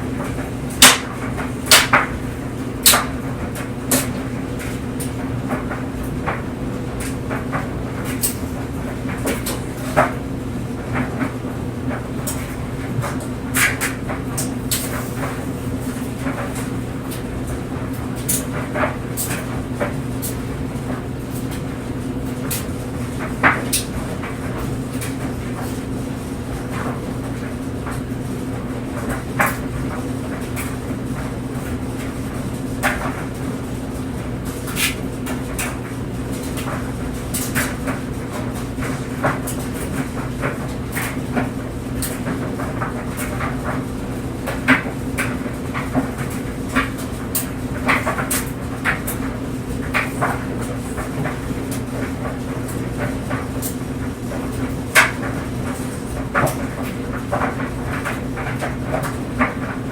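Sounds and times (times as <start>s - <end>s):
clothes dryer humming: 0.0s - 59.9s
clothes knocking in dryer drum: 0.0s - 59.9s.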